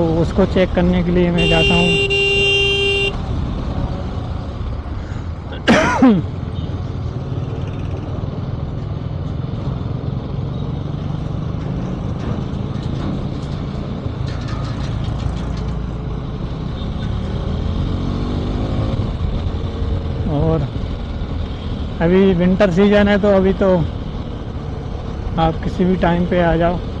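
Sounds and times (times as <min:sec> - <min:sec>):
motorcycle engine and road rumble: 0:00.0 - 0:27.0.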